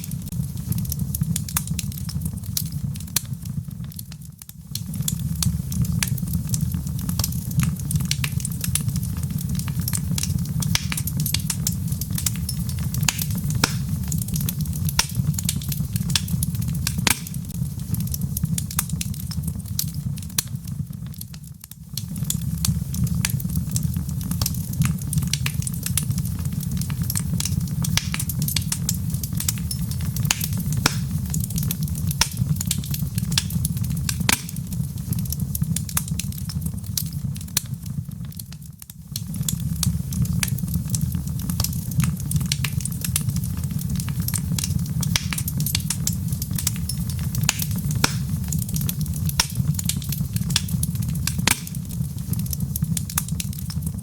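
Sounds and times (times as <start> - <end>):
low rumble of burning: 0.0 - 54.0
sharp pops and snaps: 0.0 - 54.0
wood fire crackling: 0.0 - 54.0.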